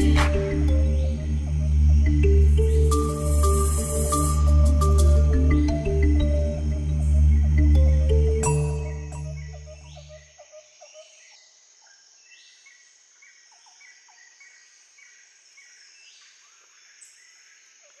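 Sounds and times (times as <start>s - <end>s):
birds chirping: 0.0s - 18.0s
insects droning: 0.0s - 18.0s.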